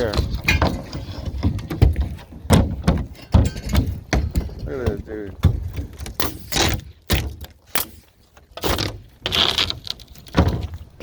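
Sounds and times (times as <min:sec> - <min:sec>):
scraping and knocking of roof work: 0:00.0 - 0:08.0, 0:08.6 - 0:11.0.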